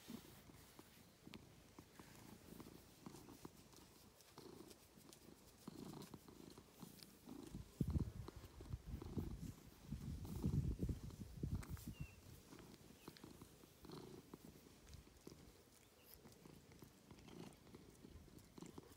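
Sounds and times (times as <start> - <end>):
cat purring: 0.0 - 18.9.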